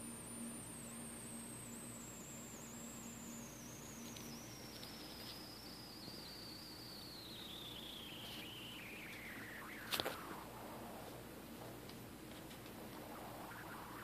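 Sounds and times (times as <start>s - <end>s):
high-pitched whine sliding down: 0.0s - 14.0s
low hum: 0.0s - 14.0s
low room noise: 0.0s - 14.0s.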